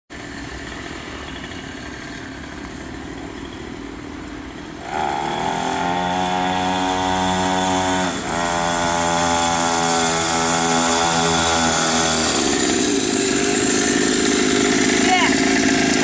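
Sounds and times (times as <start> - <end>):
mini motocross bike engine revving: 0.2 - 3.8, 4.7 - 16.0.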